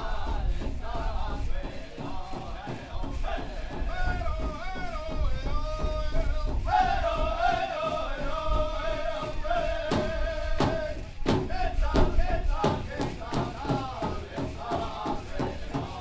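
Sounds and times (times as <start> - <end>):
drum beating: 0.0 - 16.0.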